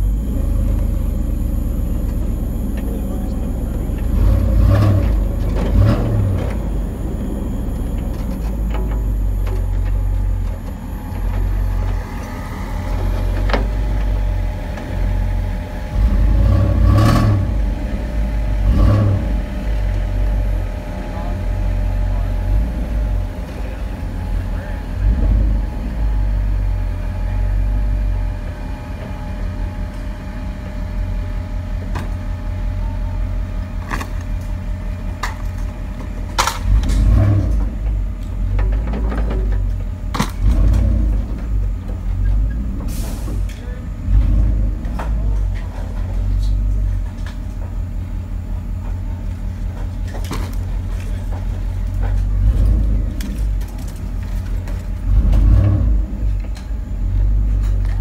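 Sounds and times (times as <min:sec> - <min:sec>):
truck diesel engine idling: 0:00.0 - 0:58.0.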